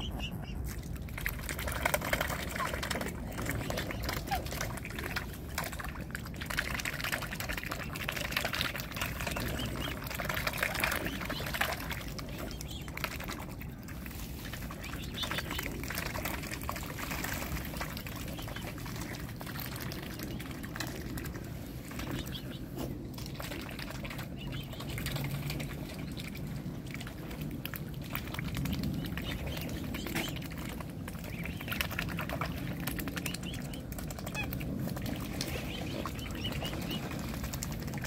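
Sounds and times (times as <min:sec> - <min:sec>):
water splashing: 0:00.0 - 0:38.0.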